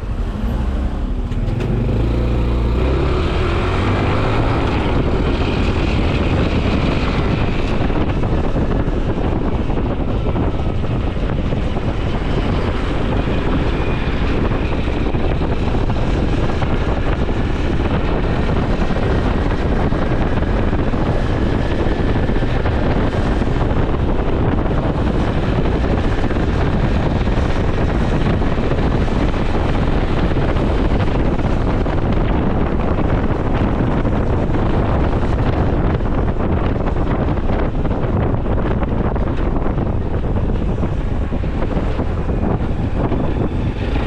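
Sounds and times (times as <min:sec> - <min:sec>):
motorcycle engine running: 0:00.0 - 0:44.0
wind noise on microphone: 0:00.0 - 0:44.0.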